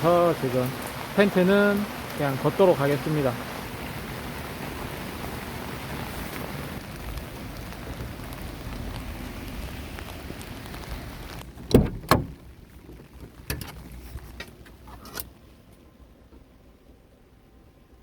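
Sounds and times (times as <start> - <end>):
rain pattering: 0.0 - 16.8.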